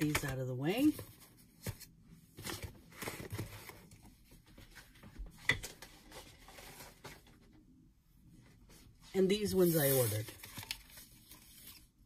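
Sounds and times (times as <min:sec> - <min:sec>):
rustling of cardboard and plastic packaging: 0:00.0 - 0:07.6, 0:09.4 - 0:12.0.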